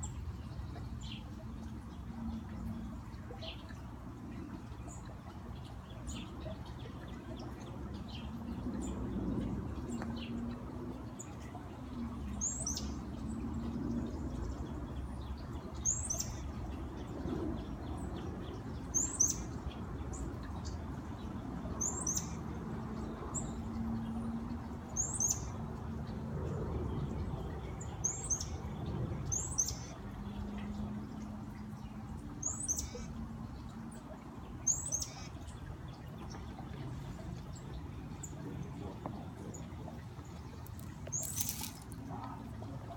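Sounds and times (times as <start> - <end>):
fountain running water: 0.0 - 42.9.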